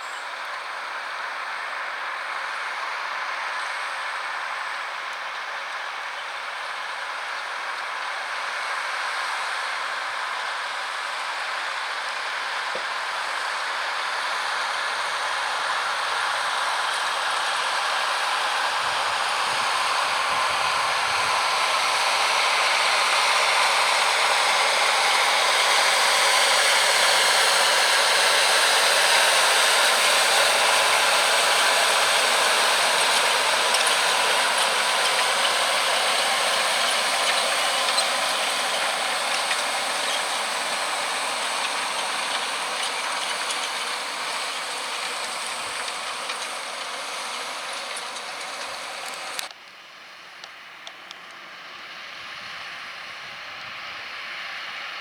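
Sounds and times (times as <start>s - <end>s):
tractor and plough rattling: 0.0s - 49.5s.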